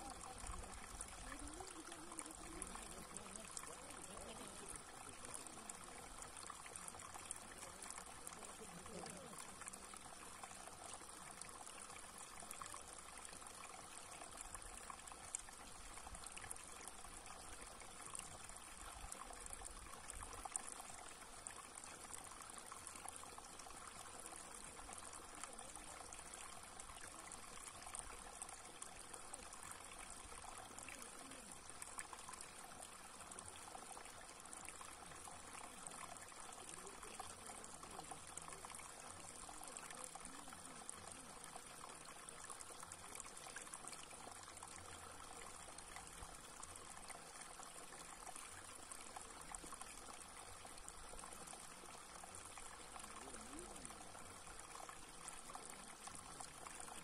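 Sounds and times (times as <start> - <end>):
stream trickling over rock: 0.0 - 57.0.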